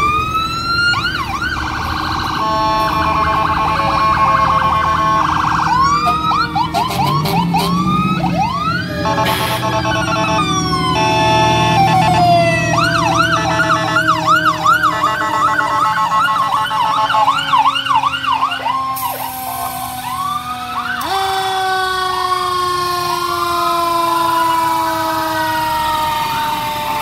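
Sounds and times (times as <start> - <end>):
electronic siren yelping: 0.0 - 27.0
falling siren tone: 0.0 - 27.0.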